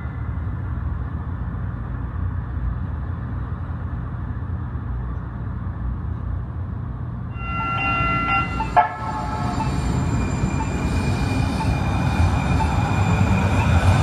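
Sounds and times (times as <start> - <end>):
city street rumble: 0.0 - 14.0
light rail train passing: 0.0 - 14.0.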